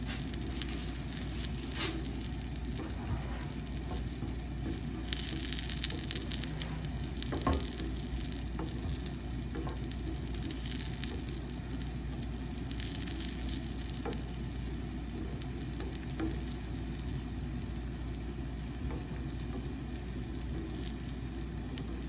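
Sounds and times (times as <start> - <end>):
pancake sizzling in hot oil: 0.0 - 22.0.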